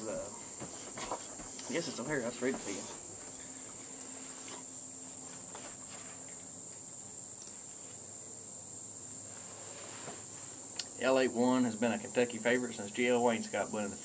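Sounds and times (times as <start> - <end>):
crickets chirping chorus: 0.0 - 14.0.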